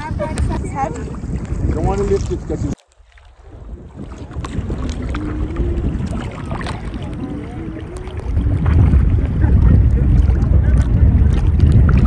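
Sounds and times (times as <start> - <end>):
low rumble: 0.0 - 12.0
seawater sloshing and splashing: 0.0 - 12.0.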